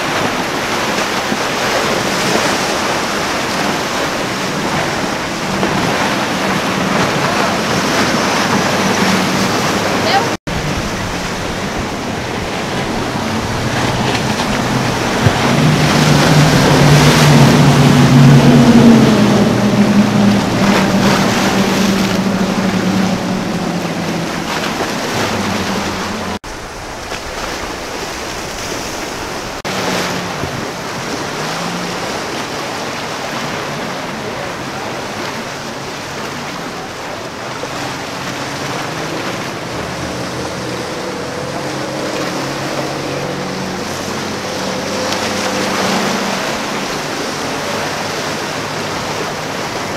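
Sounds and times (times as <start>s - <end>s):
boat outboard engines: 0.0s - 49.9s
surf: 0.0s - 49.9s
wind on microphone: 0.0s - 49.9s.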